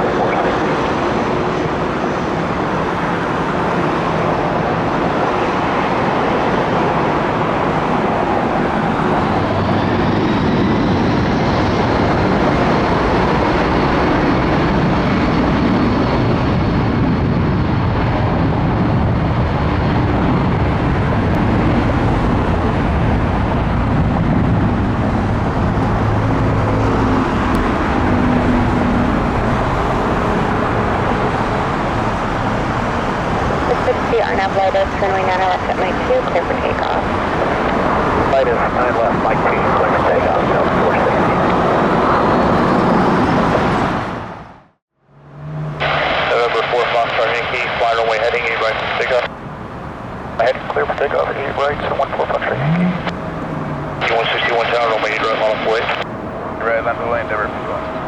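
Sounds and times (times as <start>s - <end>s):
faint high engine whine: 0.0s - 43.8s, 45.0s - 58.0s
jet engines rushing: 0.0s - 44.7s, 45.4s - 58.0s.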